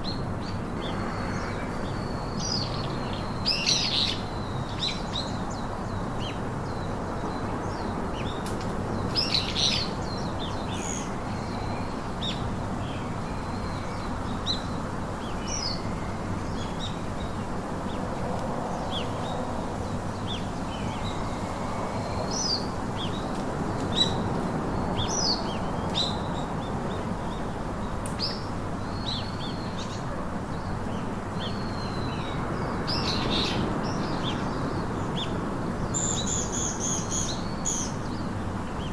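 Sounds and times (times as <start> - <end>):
wild birds chirping and whistling: 0.0 - 18.0, 18.7 - 23.2, 23.9 - 38.9.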